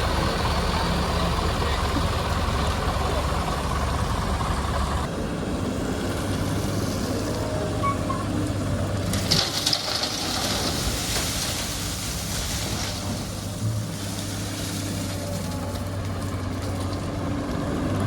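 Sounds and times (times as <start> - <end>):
excavator diesel engine humming: 0.0 - 18.0.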